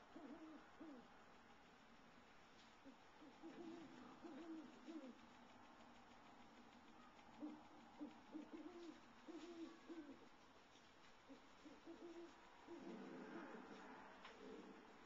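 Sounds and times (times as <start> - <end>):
faint low hoots: 0.0 - 1.2, 2.7 - 10.4, 11.2 - 15.0.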